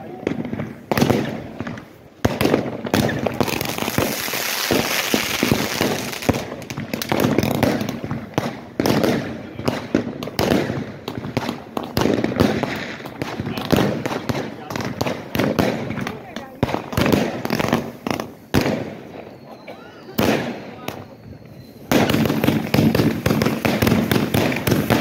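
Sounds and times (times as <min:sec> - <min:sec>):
fireworks bangs and pops: 0:00.0 - 0:25.0
hissing crackle of fireworks: 0:00.0 - 0:25.0.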